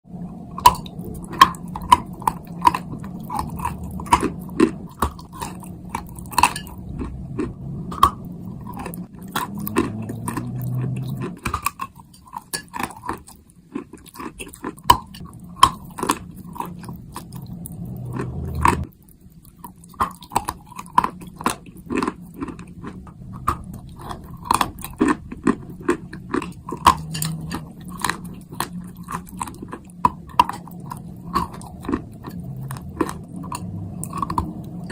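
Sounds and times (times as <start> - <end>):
chewing crunchy chalk: 0.5 - 34.9.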